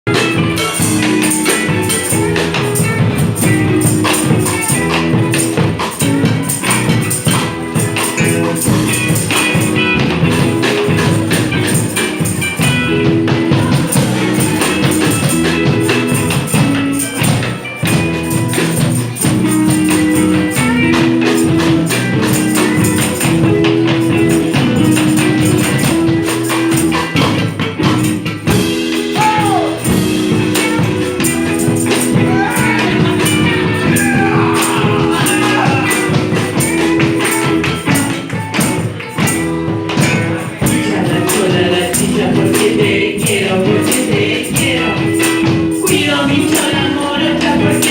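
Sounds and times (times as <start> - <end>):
band music with steady beat: 0.1 - 47.9
fast even percussion strokes: 0.1 - 47.9
stepping bass line: 0.1 - 47.9.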